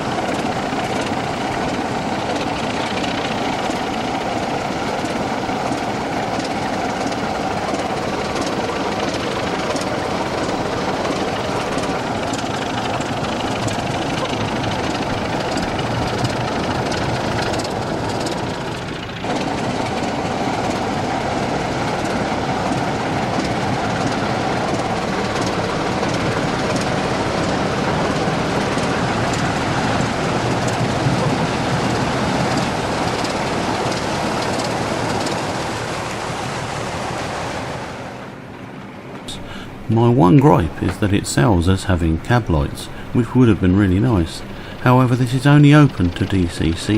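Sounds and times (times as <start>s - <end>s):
track clicks: 0.0s - 36.2s, 39.2s - 46.9s
model train running on track: 0.0s - 46.9s.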